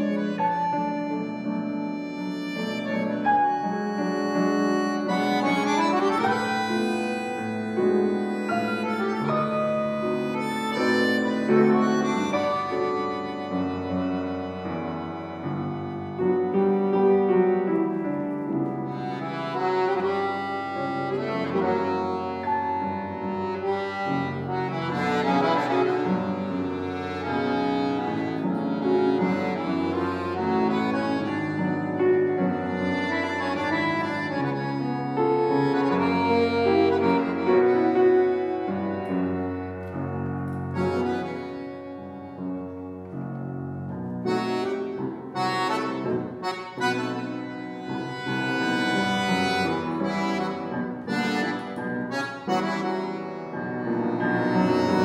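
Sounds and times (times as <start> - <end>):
accordion playing tango melody: 0.0 - 55.0
piano accompaniment: 0.0 - 55.0.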